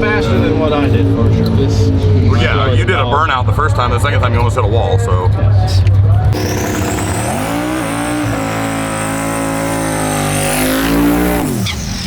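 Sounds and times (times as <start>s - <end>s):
drag-race car engine at full throttle: 0.0s - 12.0s.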